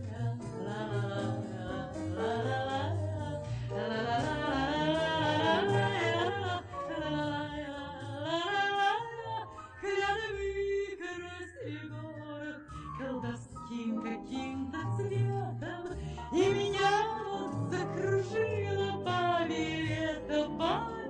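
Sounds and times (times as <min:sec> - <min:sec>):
double bass low notes: 0:00.0 - 0:21.0.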